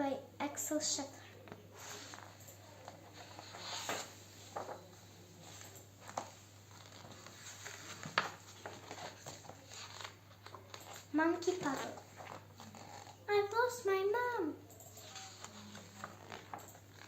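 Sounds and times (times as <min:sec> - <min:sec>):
book pages rustling and tapping: 0:01.4 - 0:13.6, 0:15.0 - 0:17.0.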